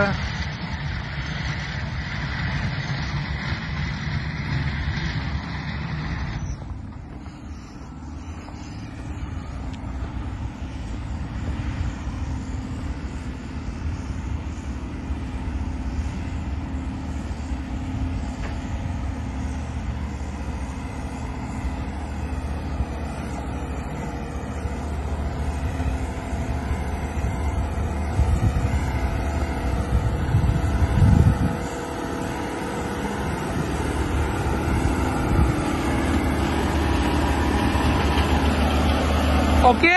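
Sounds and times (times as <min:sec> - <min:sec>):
compactor diesel engine running: 0:00.0 - 0:39.9.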